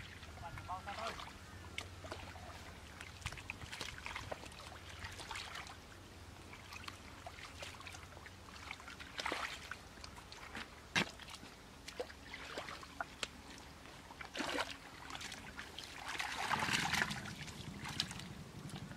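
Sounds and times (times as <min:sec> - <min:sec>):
hands splashing in muddy water: 0:01.0 - 0:05.8, 0:06.6 - 0:13.6, 0:14.2 - 0:18.8.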